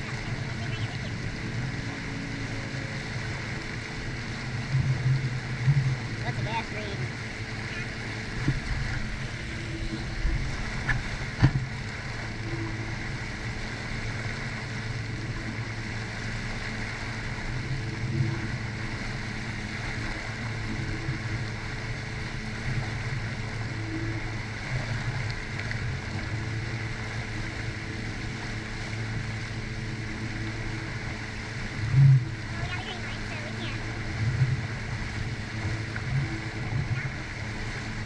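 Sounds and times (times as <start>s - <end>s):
jet ski engine droning: 0.0s - 38.0s.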